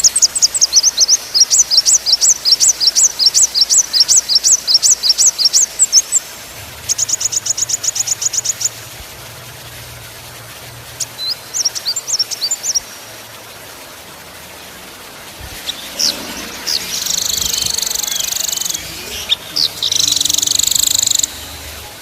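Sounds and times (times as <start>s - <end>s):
songbird singing: 0.0s - 9.1s, 10.9s - 13.0s, 15.1s - 22.0s.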